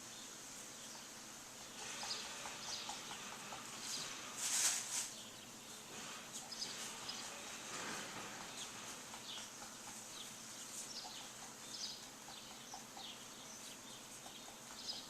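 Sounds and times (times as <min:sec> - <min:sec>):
birds chirping: 0:00.0 - 0:15.0
steady outdoor hiss: 0:00.0 - 0:15.0.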